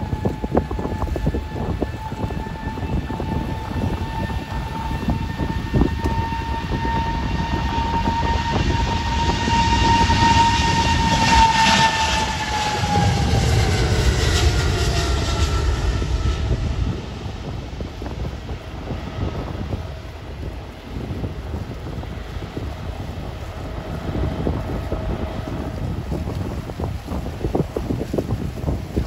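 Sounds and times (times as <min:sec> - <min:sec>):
jet engines roaring: 0:00.0 - 0:29.0
wind buffeting microphone: 0:00.0 - 0:29.0.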